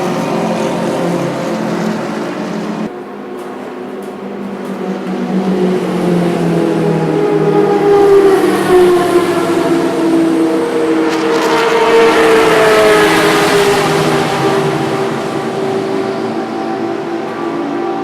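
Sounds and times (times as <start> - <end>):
race car engines running hard: 0.0 - 18.0
race car passing by: 0.0 - 18.0.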